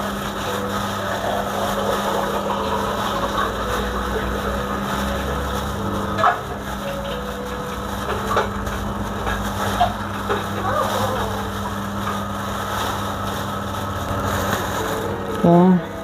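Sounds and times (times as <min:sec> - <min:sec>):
plastic bag crinkling: 0:00.0 - 0:16.0
steady machine hum: 0:00.0 - 0:16.0.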